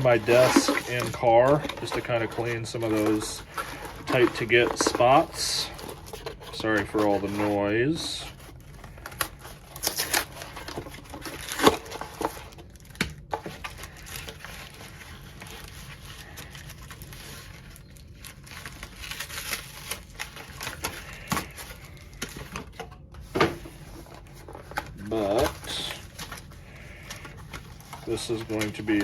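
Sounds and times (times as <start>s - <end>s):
packaging crinkling and rustling: 0.0s - 29.0s.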